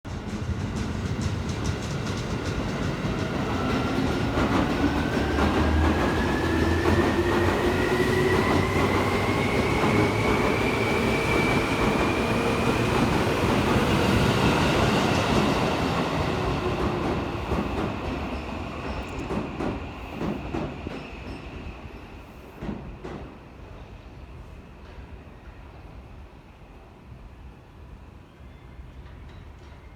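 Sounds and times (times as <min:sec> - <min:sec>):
train wheels rumbling: 0:00.1 - 0:25.8.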